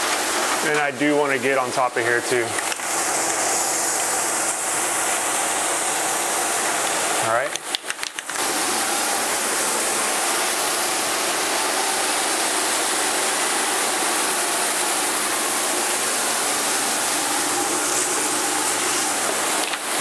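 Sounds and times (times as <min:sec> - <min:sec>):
spray paint can hissing: 0:02.6 - 0:20.0.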